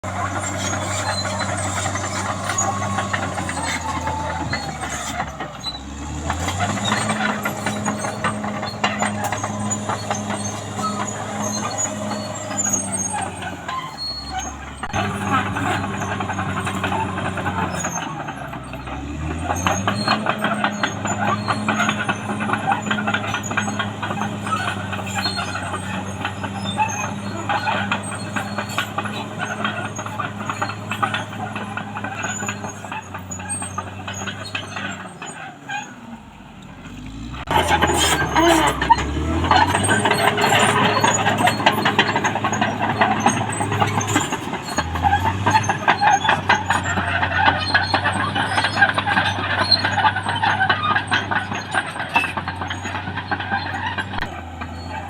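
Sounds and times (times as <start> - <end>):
bulldozer diesel engine under load: 0.0 - 55.0
rattling track clatter: 0.0 - 55.0.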